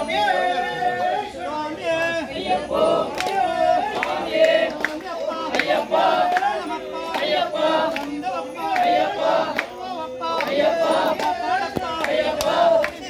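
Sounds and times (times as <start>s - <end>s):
group chanting in unison: 0.0s - 13.0s.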